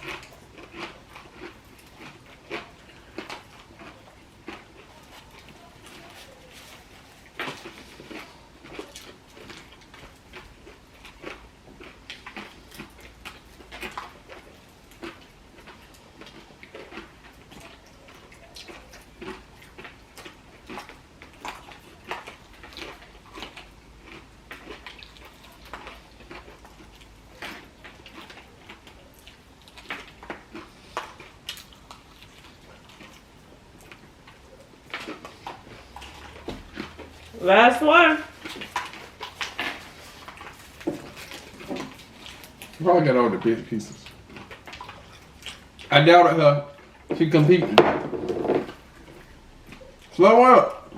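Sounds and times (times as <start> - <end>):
chewing and mouth sounds: 0.0 - 47.6, 48.2 - 50.9.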